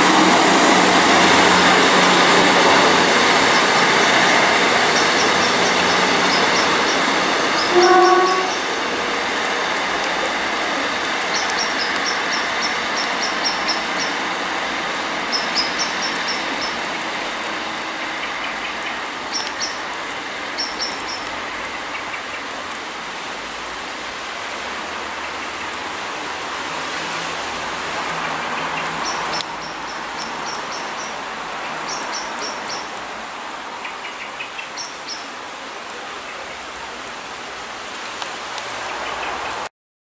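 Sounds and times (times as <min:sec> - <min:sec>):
faint diesel train drone: 0:00.0 - 0:34.4
rain falling: 0:00.0 - 0:39.7.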